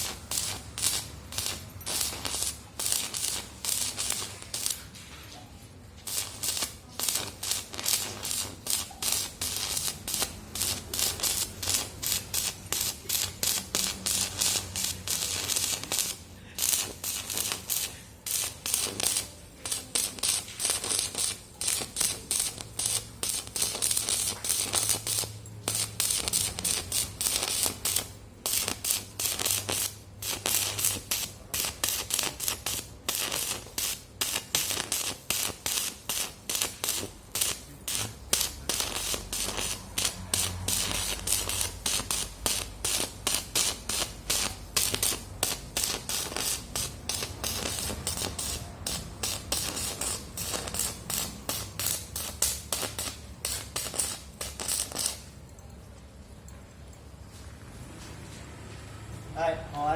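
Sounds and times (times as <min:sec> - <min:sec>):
welding arc crackling and hissing: 0:00.0 - 0:05.4, 0:06.0 - 0:55.4.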